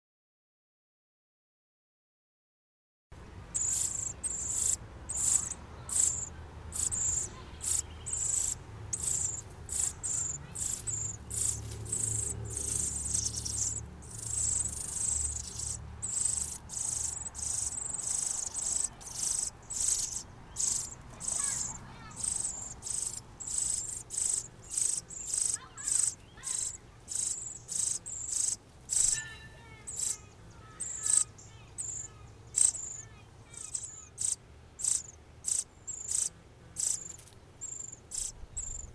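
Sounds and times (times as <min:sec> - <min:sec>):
low chirps: 0:03.5 - 0:38.9
nestlings begging calls: 0:03.5 - 0:38.9.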